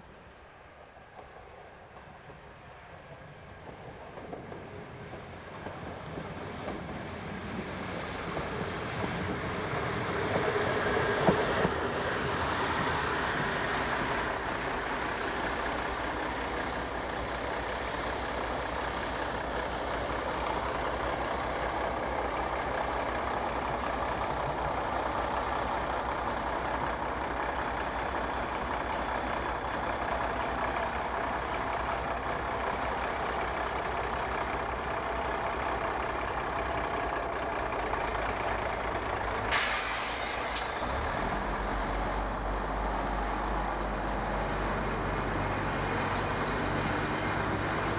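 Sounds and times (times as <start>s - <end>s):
diesel railcar engine and rail noise: 0.0s - 47.9s.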